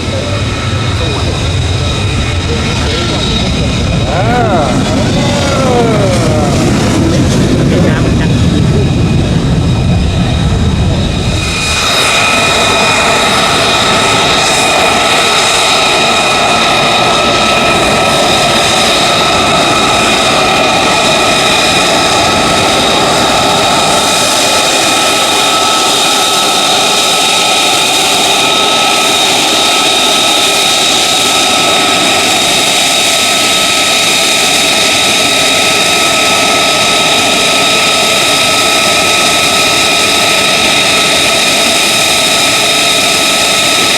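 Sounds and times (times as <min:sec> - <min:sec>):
jet engine roar with whine: 0:00.0 - 0:43.9.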